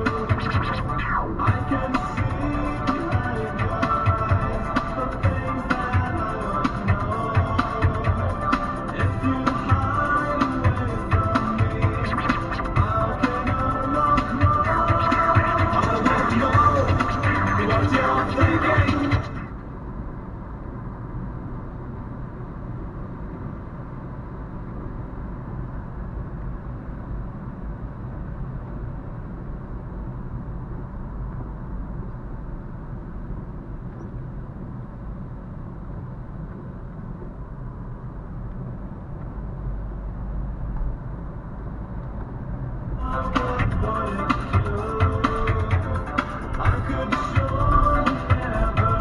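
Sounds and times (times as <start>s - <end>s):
car cabin road noise: 0.0s - 49.0s.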